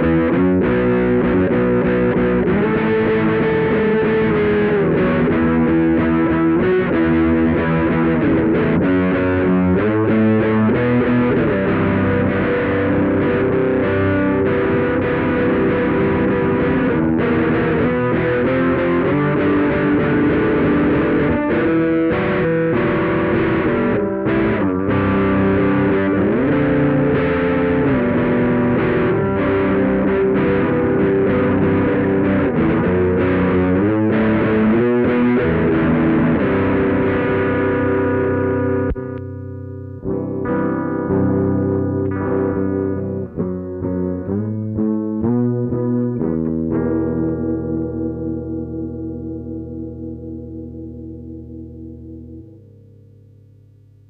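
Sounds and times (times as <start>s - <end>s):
distorted electric guitar chords: 0.0s - 54.0s.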